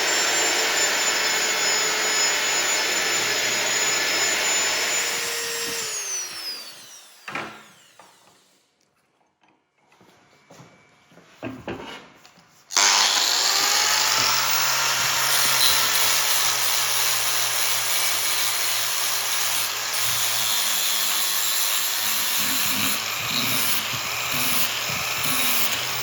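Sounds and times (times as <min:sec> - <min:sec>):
power tool grinding: 0:00.0 - 0:08.6, 0:12.7 - 0:26.0.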